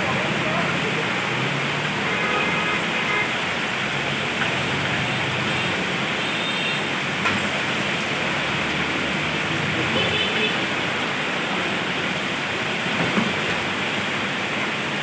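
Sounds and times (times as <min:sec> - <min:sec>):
heavy rain hissing: 0:00.0 - 0:15.0
traffic on wet road: 0:00.0 - 0:15.0.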